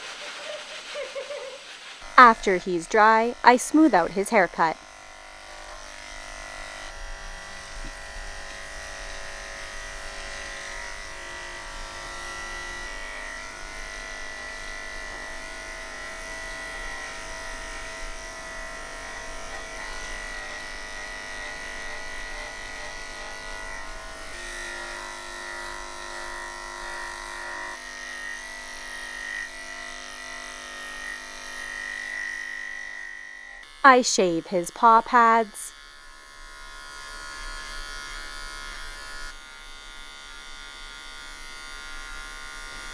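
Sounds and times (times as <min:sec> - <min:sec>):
electric clipper buzzing: 0:00.0 - 0:42.9.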